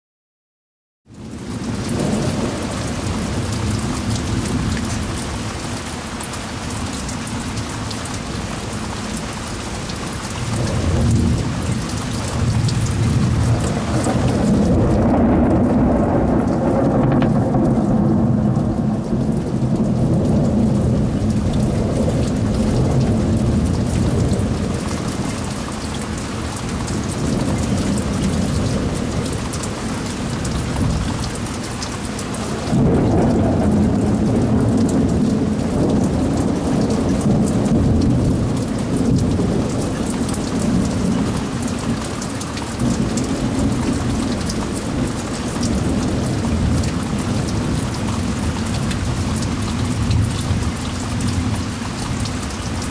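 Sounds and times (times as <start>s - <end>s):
heavy rain: 1.1s - 52.9s
thunder rumbling: 1.4s - 5.5s, 10.4s - 25.7s, 26.3s - 31.6s, 32.2s - 42.1s, 42.8s - 51.8s.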